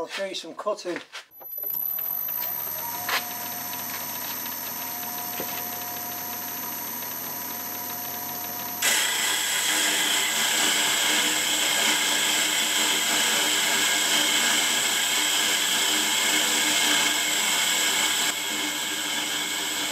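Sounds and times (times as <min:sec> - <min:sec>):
metal lathe whining: 0:01.5 - 0:19.9.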